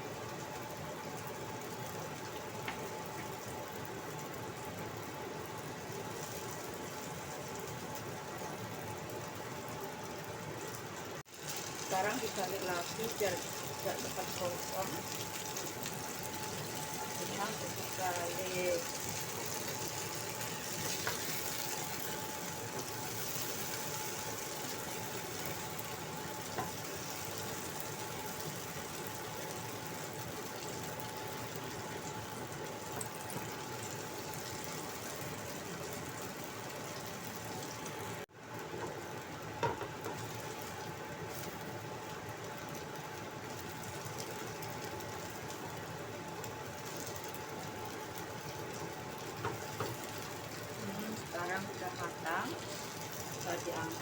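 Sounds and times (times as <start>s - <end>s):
frying in hot oil sizzling: 0.0s - 54.0s.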